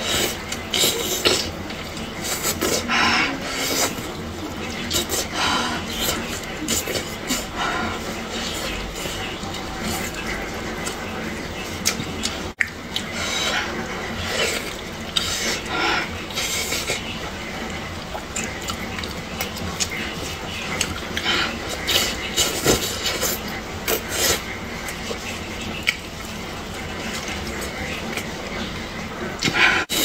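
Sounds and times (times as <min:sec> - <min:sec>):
wet chewing and slurping: 0:00.0 - 0:30.0.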